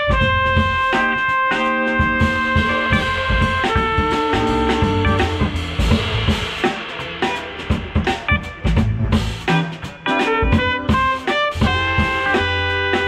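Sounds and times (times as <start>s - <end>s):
drum kit: 0.0s - 13.0s
horns playing: 0.0s - 13.0s
upright bass: 0.0s - 13.0s.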